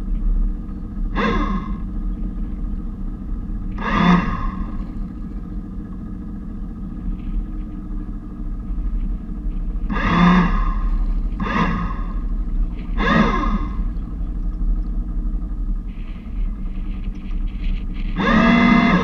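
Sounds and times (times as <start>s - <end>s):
bow thruster whine: 0.0s - 19.0s
steady low rumble: 0.0s - 19.0s.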